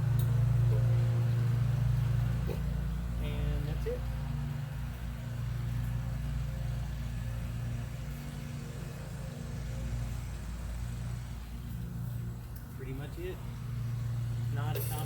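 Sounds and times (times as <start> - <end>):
gas forge rumbling: 0.0 - 15.0.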